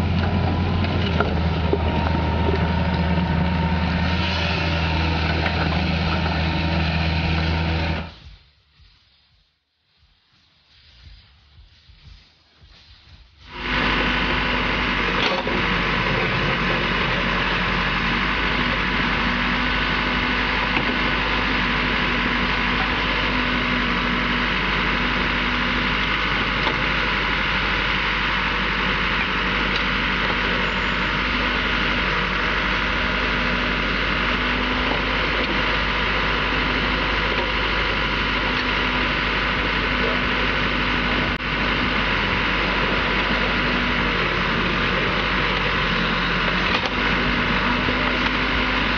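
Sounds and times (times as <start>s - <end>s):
diesel engine droning: 0.0s - 8.3s, 13.5s - 48.9s.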